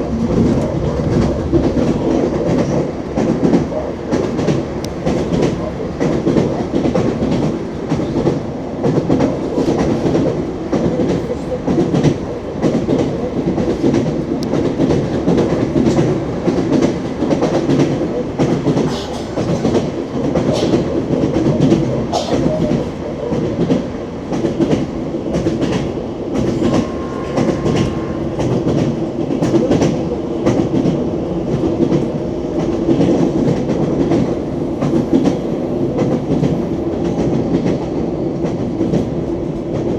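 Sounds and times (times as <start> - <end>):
train rumble: 0.0 - 39.9
train wheels clicking over rail joints: 0.1 - 39.9.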